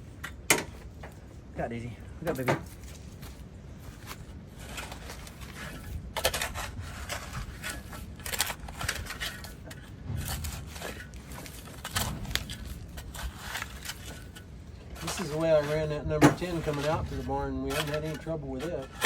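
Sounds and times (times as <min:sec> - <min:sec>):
scraping and crunching strokes: 0:00.0 - 0:19.0.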